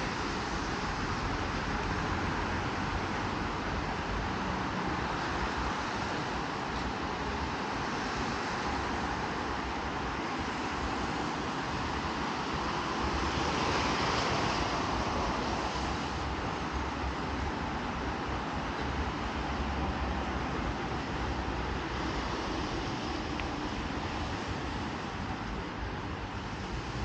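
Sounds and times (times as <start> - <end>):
street traffic on wet roads: 0.0 - 27.0.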